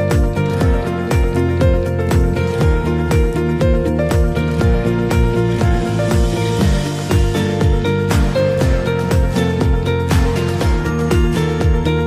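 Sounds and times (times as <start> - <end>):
kick drum beat: 0.0 - 12.0.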